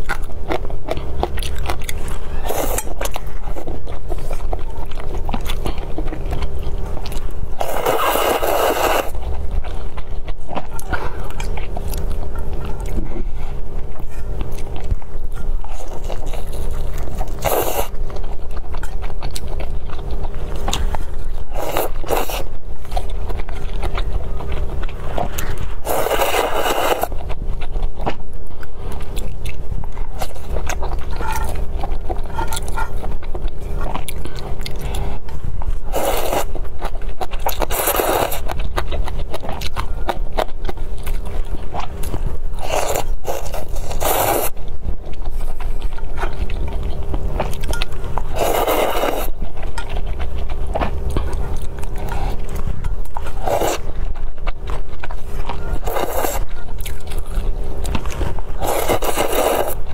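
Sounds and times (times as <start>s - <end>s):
noodles slurped: 0.0s - 12.0s, 14.6s - 19.6s, 20.3s - 33.0s, 33.6s - 59.9s
chewing: 0.0s - 59.9s
steady low hum: 0.0s - 59.9s.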